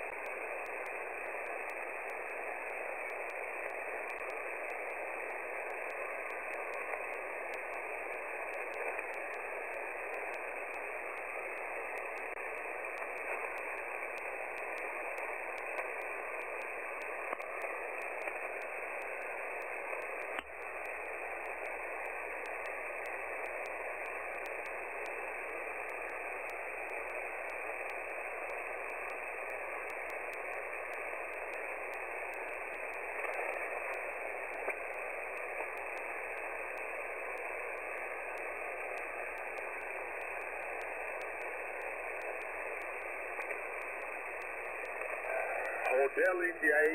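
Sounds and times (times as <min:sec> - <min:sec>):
radio click: 0:00.0 - 0:46.9
radio hiss and static: 0:00.0 - 0:46.9.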